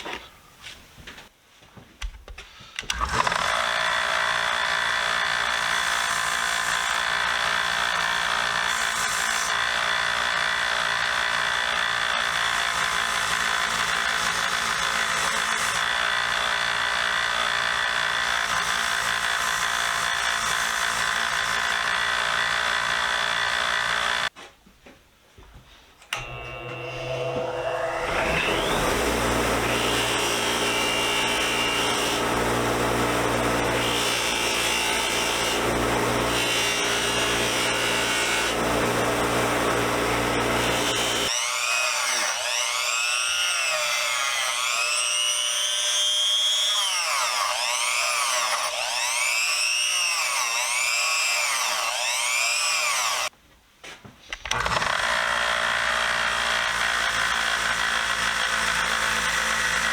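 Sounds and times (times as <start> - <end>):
belt sander running: 2.9 - 24.3, 26.1 - 53.3, 54.5 - 59.9.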